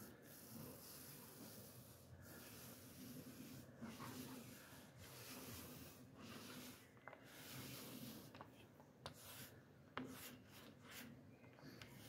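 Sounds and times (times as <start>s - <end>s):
paint roller rubbing on panel: 0.0s - 8.4s, 9.1s - 11.2s.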